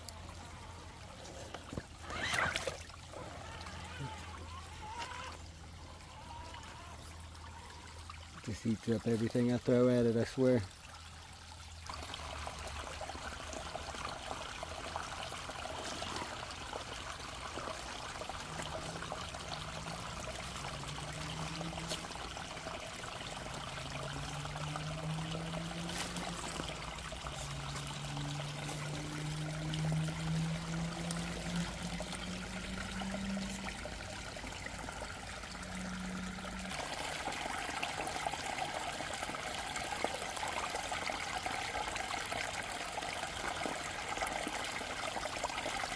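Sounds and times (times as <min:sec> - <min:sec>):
creek water trickling over rocks: 0:00.0 - 0:45.9.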